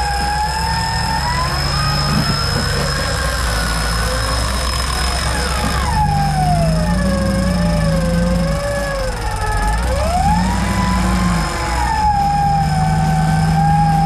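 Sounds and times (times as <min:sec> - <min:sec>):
engine working under load: 0:00.0 - 0:14.0.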